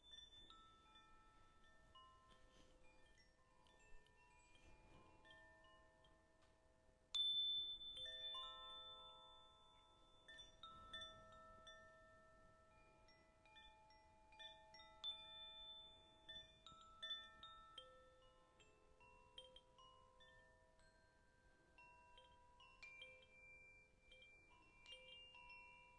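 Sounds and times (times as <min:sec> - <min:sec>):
metal chimes ringing: 0:00.0 - 0:25.9.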